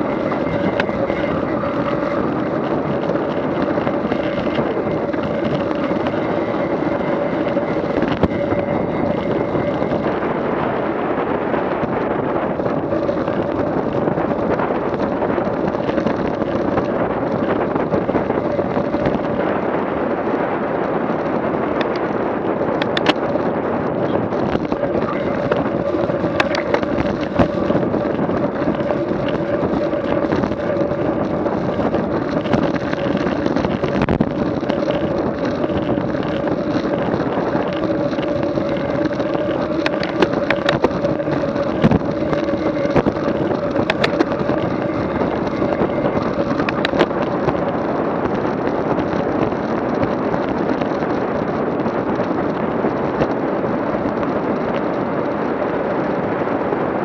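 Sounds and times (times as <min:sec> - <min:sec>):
vehicle engine running: 0:00.0 - 0:55.7
wind noise on microphone: 0:00.0 - 0:57.0.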